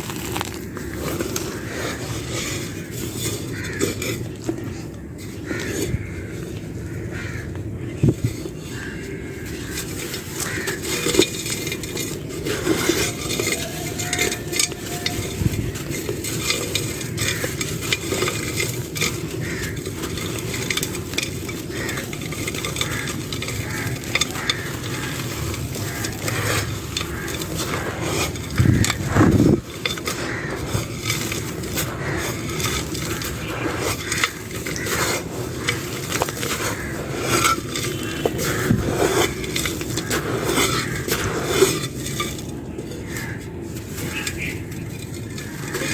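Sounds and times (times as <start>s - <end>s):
dry clay crunching: 0.0s - 45.9s.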